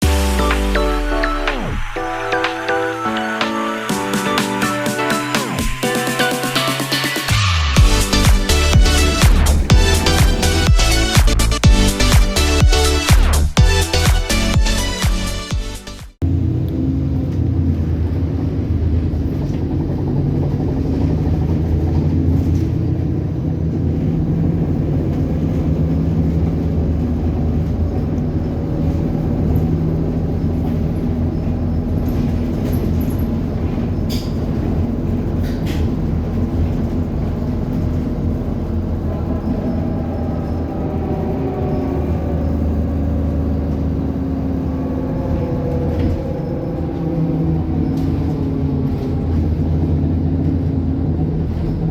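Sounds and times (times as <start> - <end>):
bus engine drone: 0.0 - 51.9.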